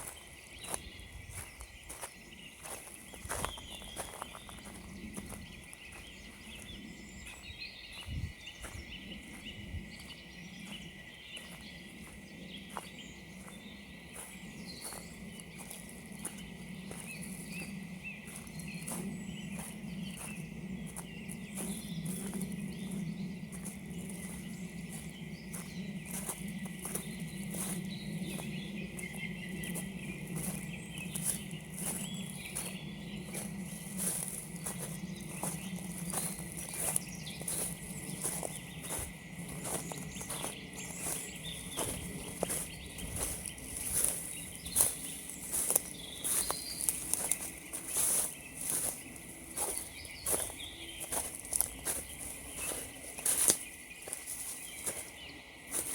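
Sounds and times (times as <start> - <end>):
footsteps crunching on frozen ground: 0.0 - 55.9
small birds chirping: 0.0 - 55.9
steady low hum: 2.2 - 55.6.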